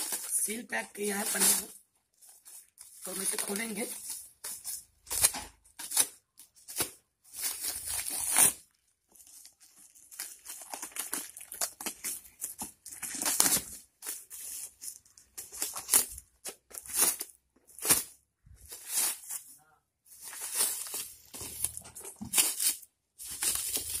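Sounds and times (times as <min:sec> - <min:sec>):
plastic wrapping crinkling and ripping: 0:00.0 - 0:19.5, 0:20.1 - 0:24.0.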